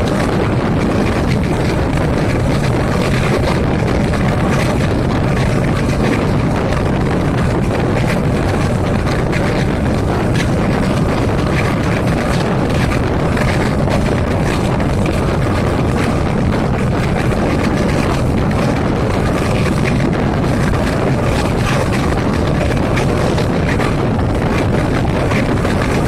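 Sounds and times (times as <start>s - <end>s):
diesel engine rumbling: 0.0s - 26.0s
wind noise: 0.0s - 26.0s.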